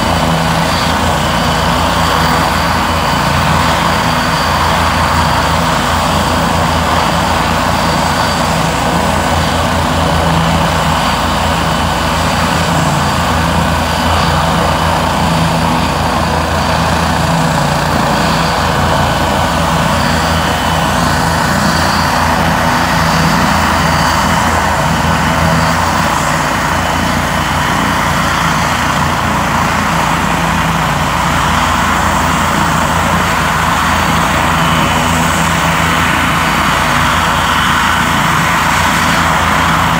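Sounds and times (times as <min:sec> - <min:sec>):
helicopter flying overhead: 0:00.0 - 0:39.9.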